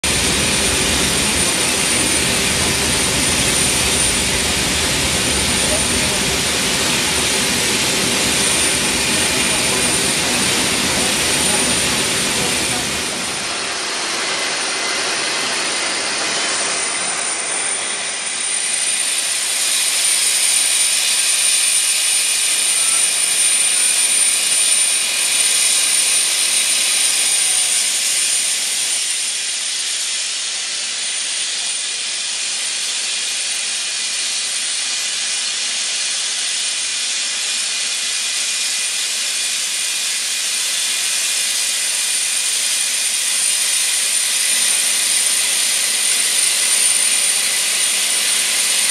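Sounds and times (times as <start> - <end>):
jet turbine whine: 0.0 - 48.9
rushing hiss: 0.0 - 48.9.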